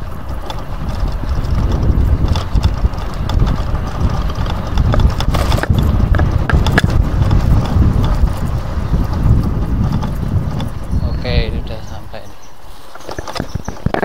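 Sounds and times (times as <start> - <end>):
knocks and rattles: 0.0 - 11.0, 13.0 - 14.0
wind rumbling on microphone: 0.0 - 14.0.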